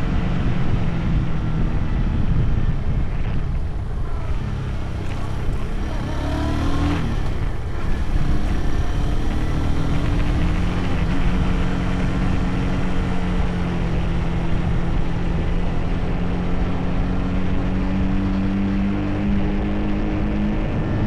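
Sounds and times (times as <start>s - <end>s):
motorcycle engine running: 0.0s - 21.0s
wind noise rumble: 0.0s - 21.0s.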